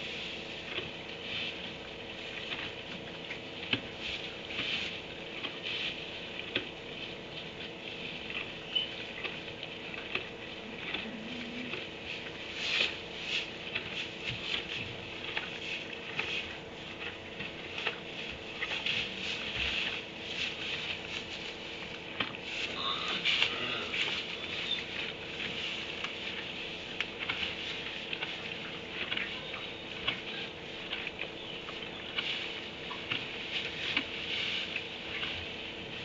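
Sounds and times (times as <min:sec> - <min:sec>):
donkeys rustling in wood shavings: 0:00.0 - 0:36.0
faint electrical hum: 0:00.0 - 0:36.0.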